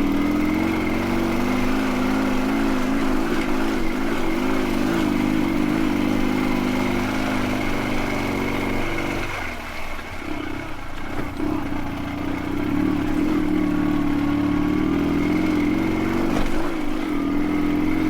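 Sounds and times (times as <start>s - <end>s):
motorcycle engine labouring: 0.0s - 18.0s.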